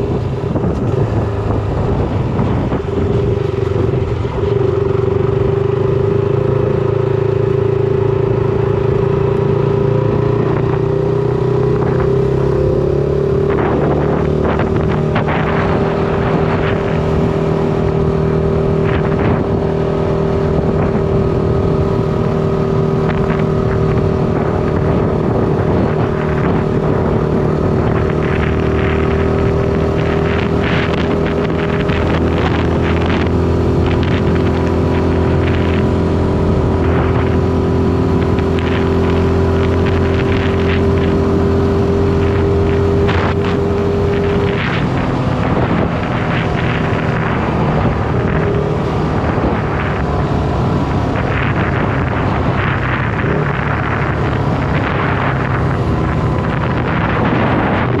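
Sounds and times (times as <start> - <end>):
motorcycle engine cruising: 0.0 - 58.0
wind on microphone: 0.0 - 58.0.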